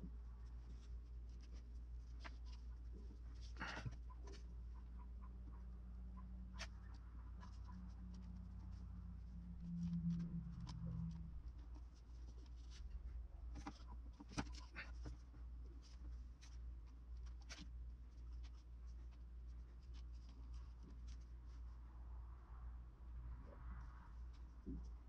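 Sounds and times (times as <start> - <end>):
hands working modelling clay: 0.0 - 5.7, 6.4 - 22.0
steady low hum: 0.0 - 25.0.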